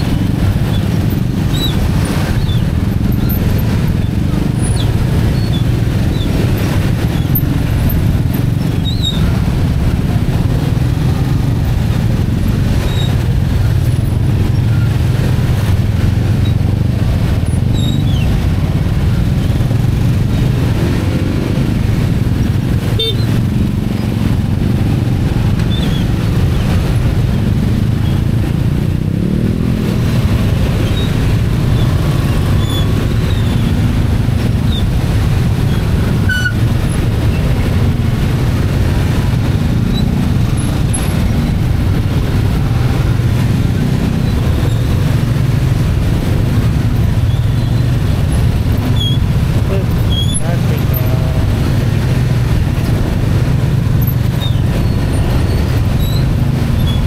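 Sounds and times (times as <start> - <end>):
engines droning in traffic: 0.0 - 57.0
engines revving: 0.0 - 57.0.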